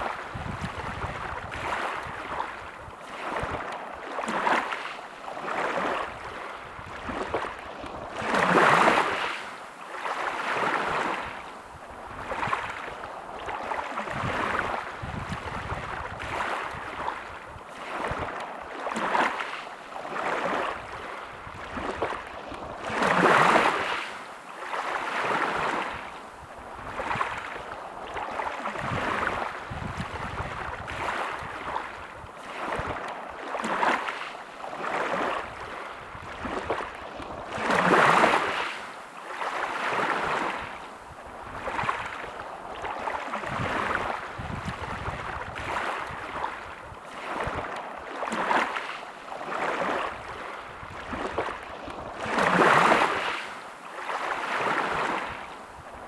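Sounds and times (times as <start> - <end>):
large waves breaking: 0.0 - 56.0
sea waves washing onto beach: 0.0 - 56.0.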